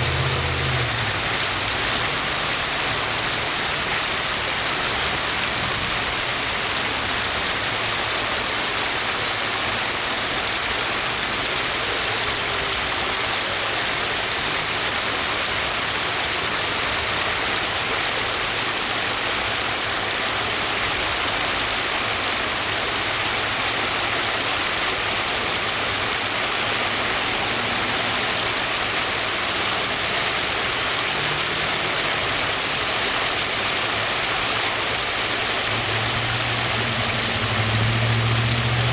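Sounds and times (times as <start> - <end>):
creek water running over rocks: 0.0 - 38.9.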